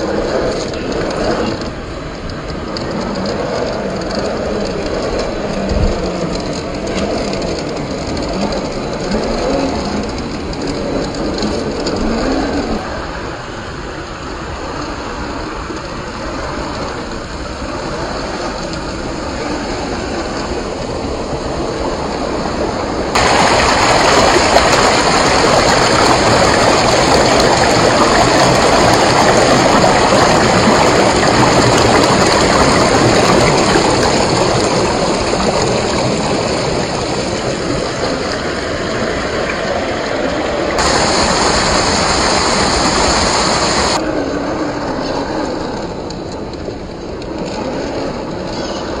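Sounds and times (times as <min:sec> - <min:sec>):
rushing river water: 0:00.0 - 0:45.9.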